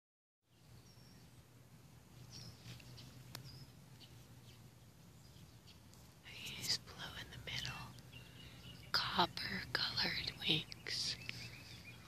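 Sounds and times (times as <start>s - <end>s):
faint low hum: 0.5s - 12.0s
small birds chirping: 0.5s - 12.0s.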